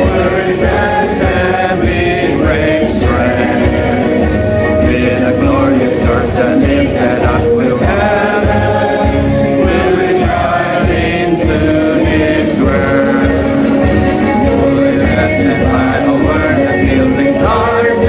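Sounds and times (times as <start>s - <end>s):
choir singing: 0.0s - 18.0s
musical accompaniment: 0.0s - 18.0s.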